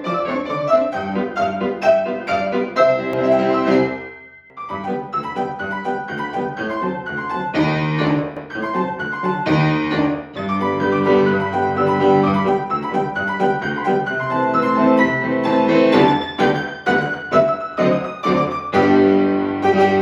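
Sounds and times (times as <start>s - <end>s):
fast piano duet: 0.0s - 20.0s.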